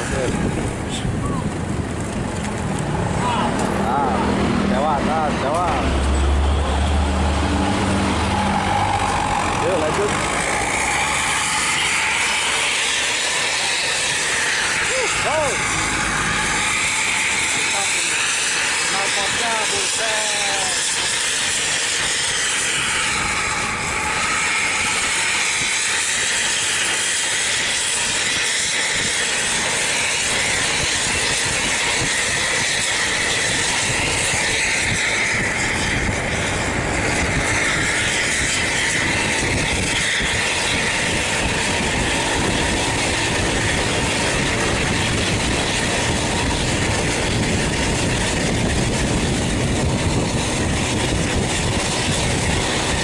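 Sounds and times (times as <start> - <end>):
low rumble: 0.0 - 20.0, 29.5 - 53.0
road travel rushing hiss: 0.0 - 53.0.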